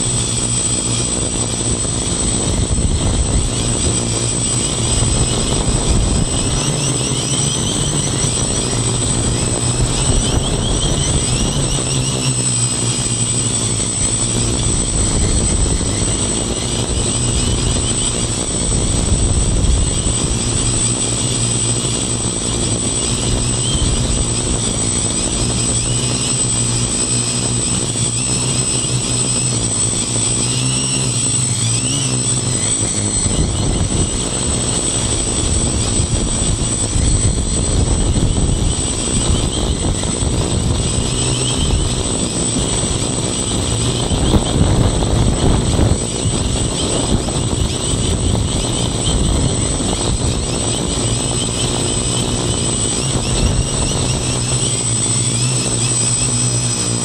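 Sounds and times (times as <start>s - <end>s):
drone motors and propellers buzzing: 0.0s - 57.0s.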